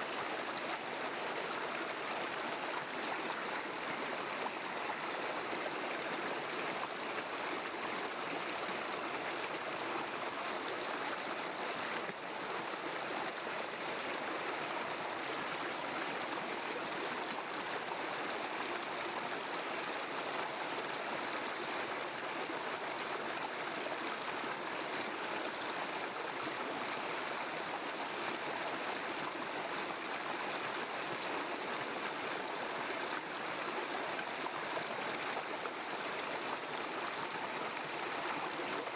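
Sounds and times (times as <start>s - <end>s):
river water rushing and burbling: 0.0s - 38.9s.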